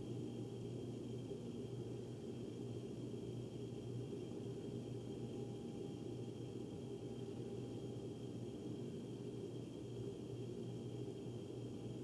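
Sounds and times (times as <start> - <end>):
ductwork hum with faint hiss: 0.0 - 12.0.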